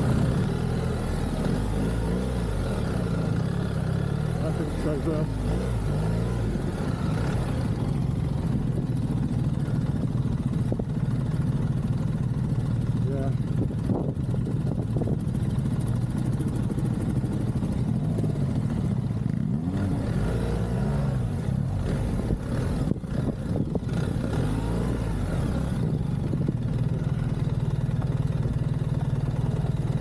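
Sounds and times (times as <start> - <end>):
motorcycle engine running: 0.0 - 30.0
wind and tyre noise: 5.3 - 30.0.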